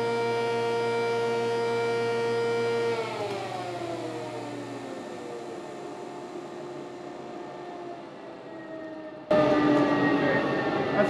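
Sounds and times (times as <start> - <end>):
low hum: 0.0 - 11.0
machine whine winding down: 0.0 - 11.0.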